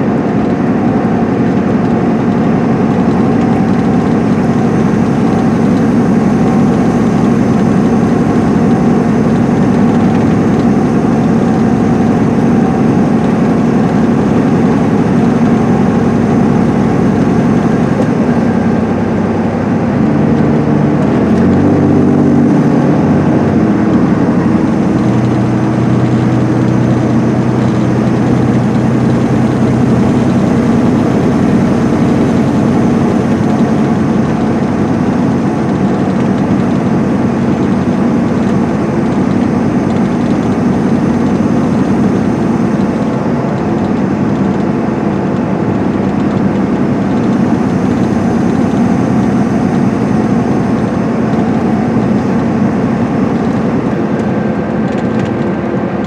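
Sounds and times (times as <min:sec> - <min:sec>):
diesel engine droning: 0:00.0 - 0:56.0
road and tyre noise: 0:00.0 - 0:56.0.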